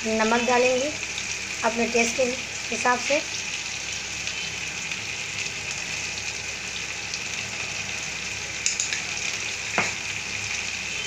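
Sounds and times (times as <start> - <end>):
food frying sizzle: 0.0 - 11.0.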